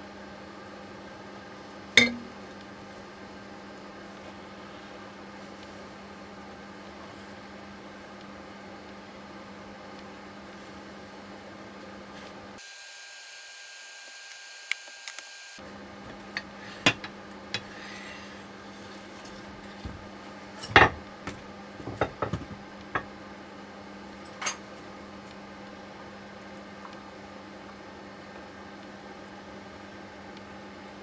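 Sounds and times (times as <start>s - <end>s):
steady background hum: 0.0s - 13.4s, 14.0s - 31.0s.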